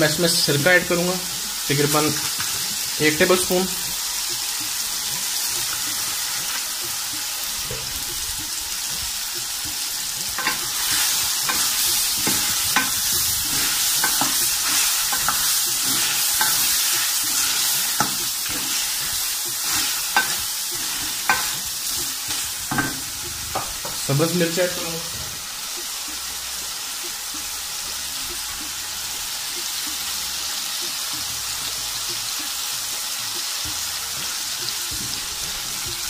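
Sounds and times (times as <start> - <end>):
chicken sizzling in pan: 0.0 - 36.0.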